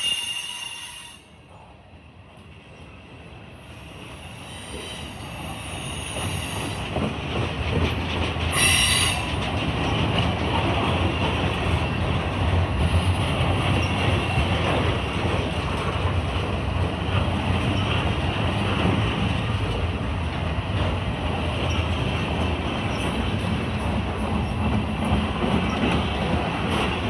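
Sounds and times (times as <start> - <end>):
freight train wheels rattling on rails: 0.0 - 27.0.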